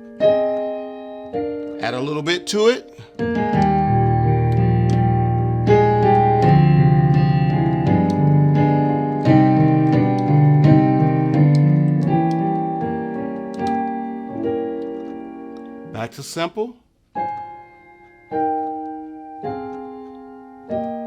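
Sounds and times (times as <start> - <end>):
solo piano: 0.0 - 16.4, 17.1 - 21.0.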